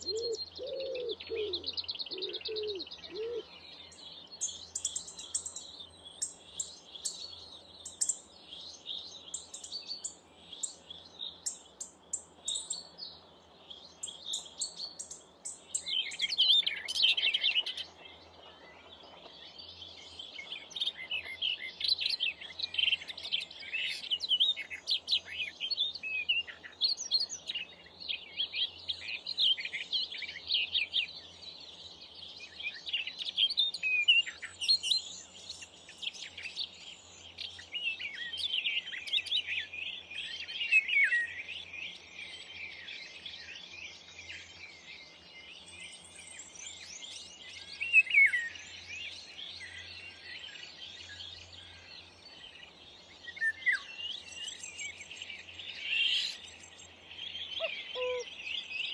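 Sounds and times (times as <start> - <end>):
small birds chirping and twittering: 0.0 - 58.9.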